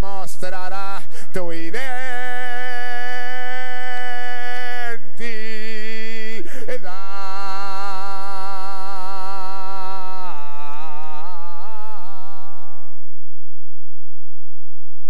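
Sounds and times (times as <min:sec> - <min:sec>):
man singing long note: 0:00.0 - 0:13.2.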